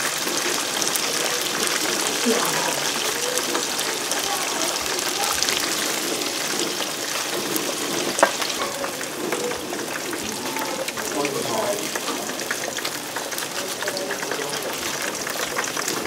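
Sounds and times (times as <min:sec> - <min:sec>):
food deep-frying in hot oil: 0:00.0 - 0:16.0.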